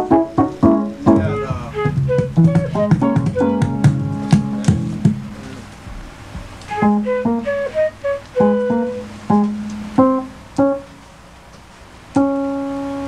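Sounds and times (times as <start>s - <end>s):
slow piano notes: 0.0s - 11.2s, 12.1s - 13.0s.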